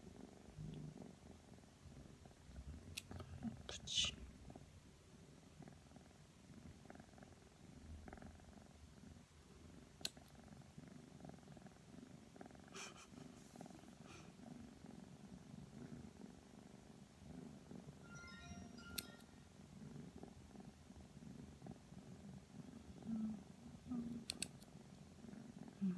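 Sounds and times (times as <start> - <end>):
kitten purring: 0.0 - 18.1, 19.5 - 25.9.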